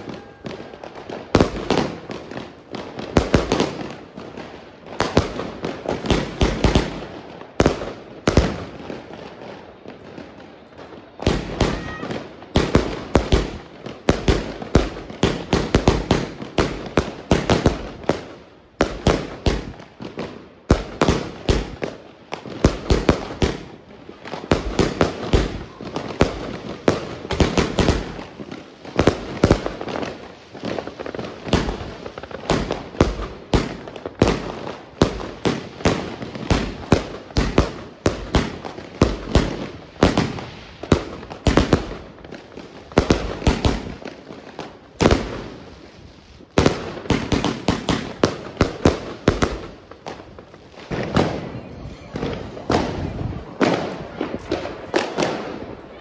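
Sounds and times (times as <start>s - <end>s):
firework launch reports and bursts: 0.0s - 56.0s.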